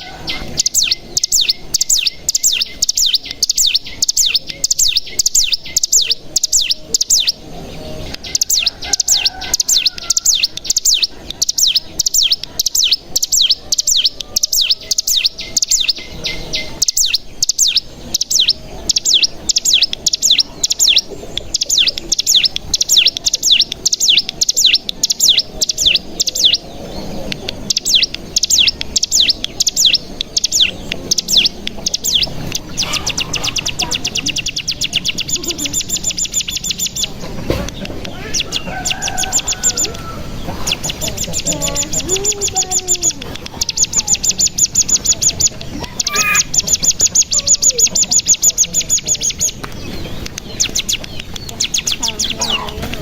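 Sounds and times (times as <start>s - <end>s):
bird chirping rapidly: 0.0s - 53.0s.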